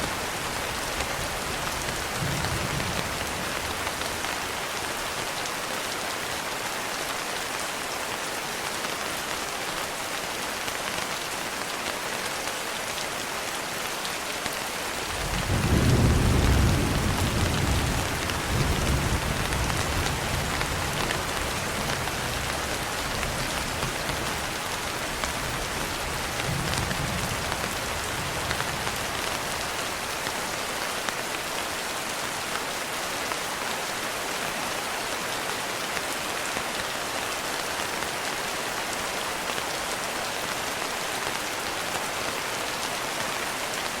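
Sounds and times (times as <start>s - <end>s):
gentle rain falling: 0.0s - 44.0s.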